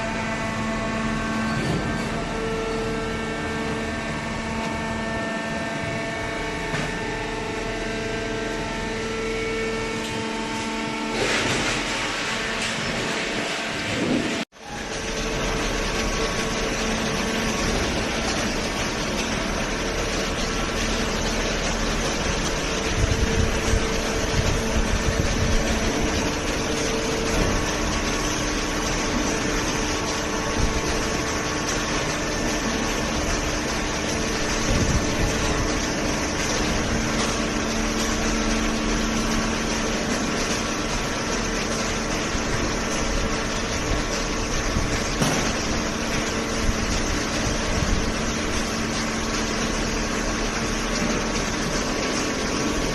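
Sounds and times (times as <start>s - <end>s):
baler mechanical hum: 0.0s - 52.9s.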